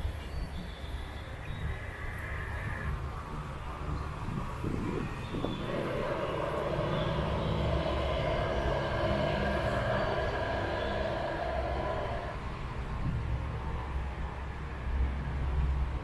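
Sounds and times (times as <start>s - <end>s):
engine rumble with hiss: 0.0s - 16.0s.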